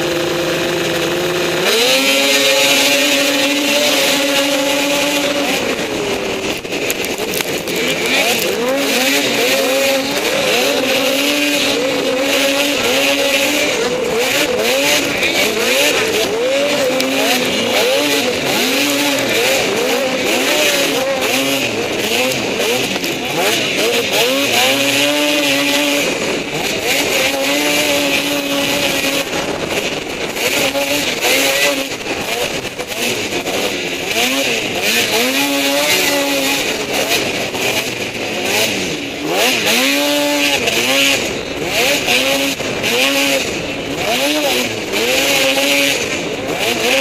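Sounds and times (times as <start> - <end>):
snowmobile engine revving: 0.0 - 47.0
steady rushing noise: 0.0 - 47.0.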